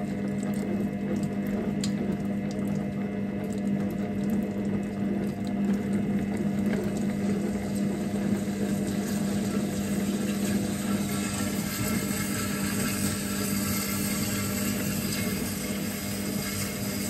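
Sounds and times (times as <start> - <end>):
cooking robot motor hum: 0.0 - 17.0.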